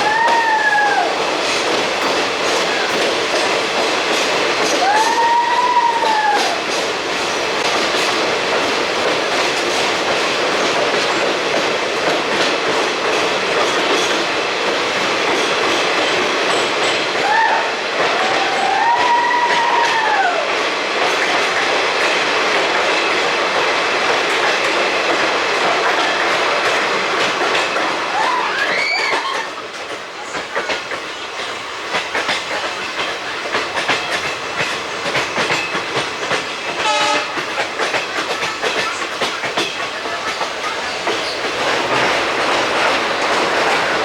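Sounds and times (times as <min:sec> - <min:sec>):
train rumbling along track: 0:00.0 - 0:44.0
wheels clacking over rail joints: 0:00.0 - 0:44.0.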